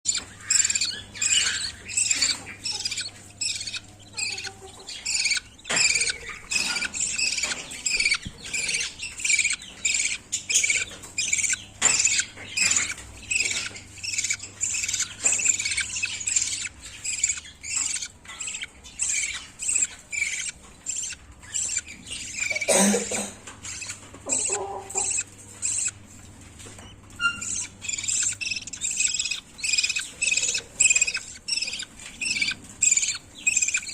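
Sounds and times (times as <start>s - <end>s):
chicks chirping: 0.1s - 33.9s.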